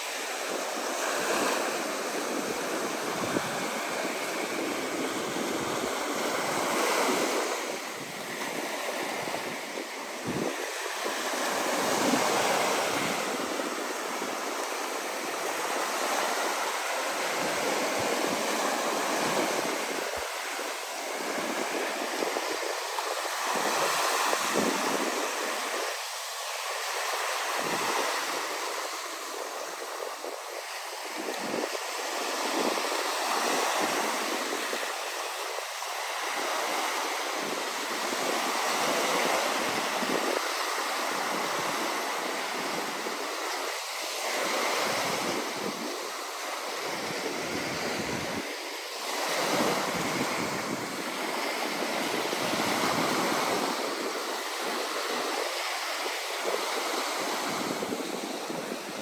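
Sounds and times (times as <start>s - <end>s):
ocean waves breaking: 0.0s - 59.0s
wind on microphone: 0.0s - 59.0s.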